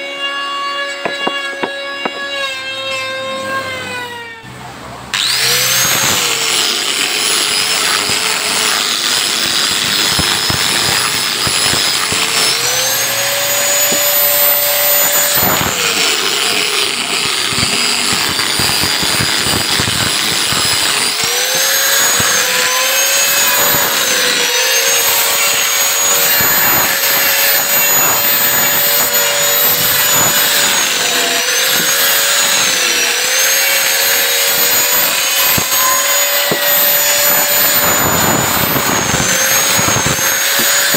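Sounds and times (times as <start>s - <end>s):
angle grinder whine: 0.0s - 40.9s.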